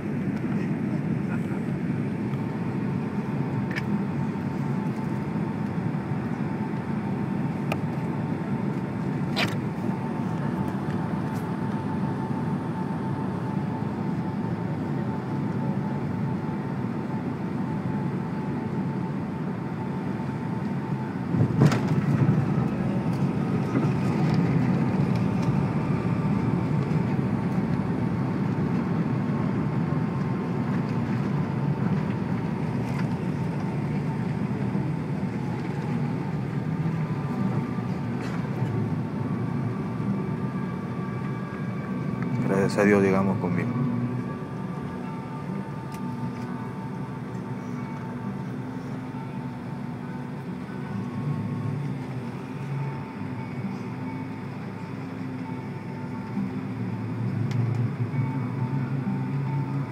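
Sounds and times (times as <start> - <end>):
airliner engine and airflow noise: 0.0 - 59.9
plane rolling on runway rumble: 0.0 - 59.9
thin steady whine: 0.0 - 59.9.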